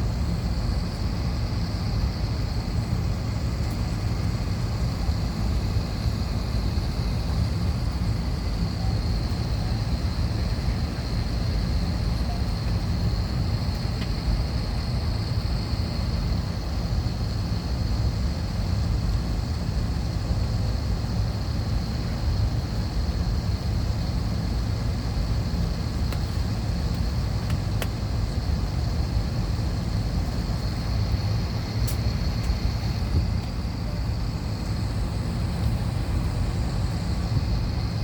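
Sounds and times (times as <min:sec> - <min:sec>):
air conditioning rumble: 0:00.0 - 0:38.0.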